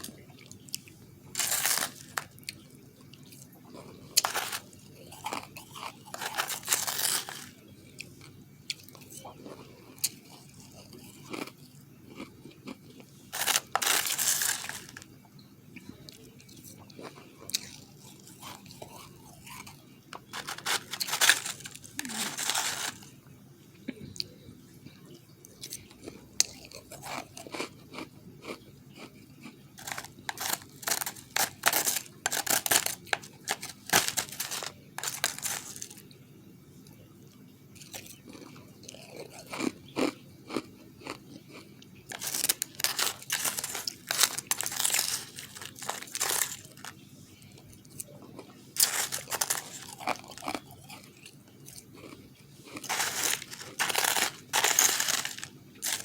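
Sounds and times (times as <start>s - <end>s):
ice being chewed: 0.0s - 23.2s, 24.2s - 36.2s, 37.3s - 56.0s.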